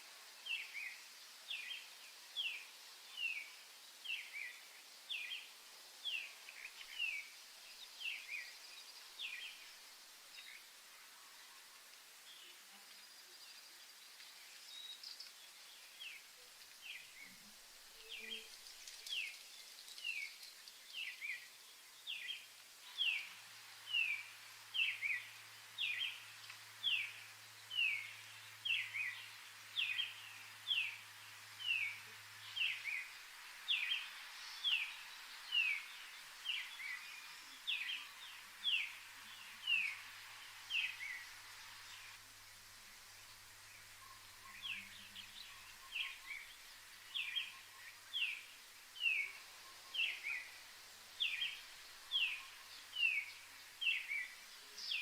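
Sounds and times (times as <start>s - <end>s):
soft background hiss: 0.0s - 55.0s.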